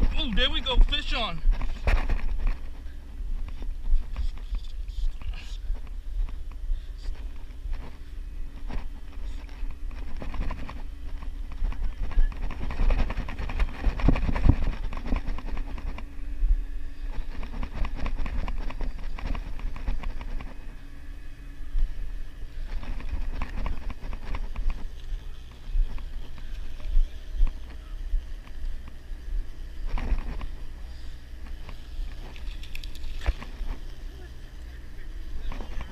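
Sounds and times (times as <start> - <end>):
boat engine humming: 0.0 - 35.9.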